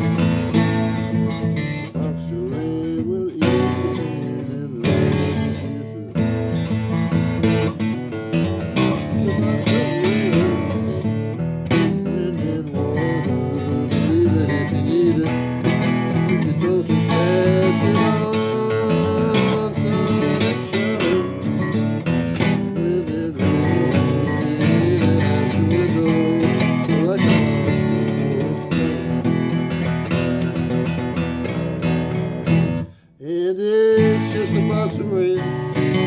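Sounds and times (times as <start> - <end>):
acoustic guitar strummed: 0.0 - 36.0.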